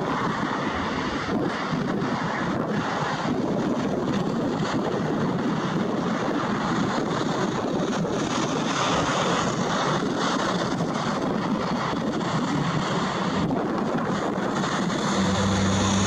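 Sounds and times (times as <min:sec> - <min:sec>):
jet engines running: 0:00.0 - 0:16.0
wind on microphone: 0:00.0 - 0:16.0.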